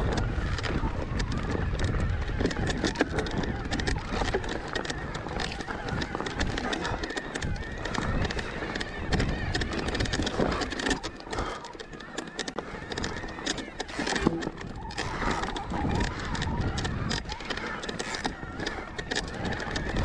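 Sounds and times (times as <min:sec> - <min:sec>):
bike rattling over stones: 0:00.0 - 0:20.0.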